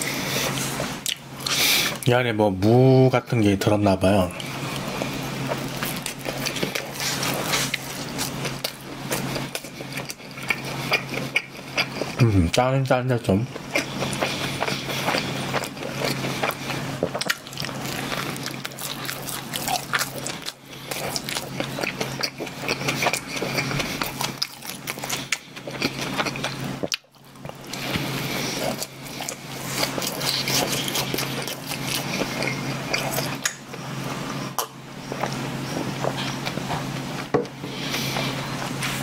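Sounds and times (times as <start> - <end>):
person chewing bread: 0.0 - 2.1, 4.3 - 12.6, 13.5 - 39.0.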